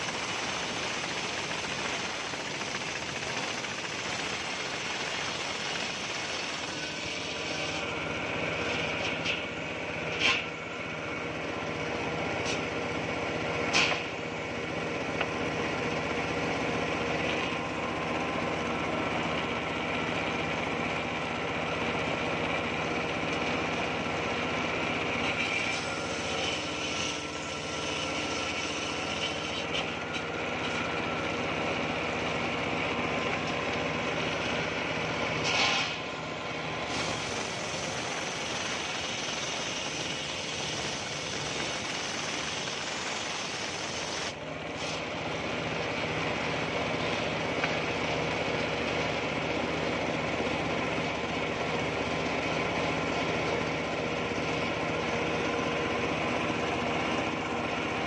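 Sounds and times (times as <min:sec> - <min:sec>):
saw blade cutting whine: 0:00.0 - 0:49.0.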